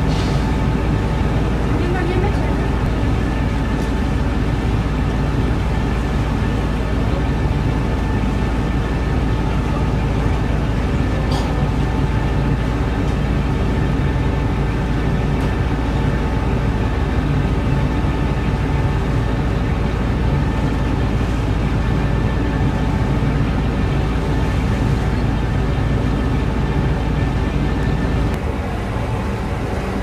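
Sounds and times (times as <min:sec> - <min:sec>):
ferry engine drone: 0:00.0 - 0:30.0.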